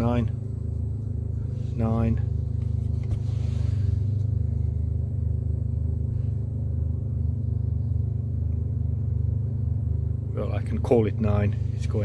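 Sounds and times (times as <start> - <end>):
heater fan motor humming: 0.0 - 12.0.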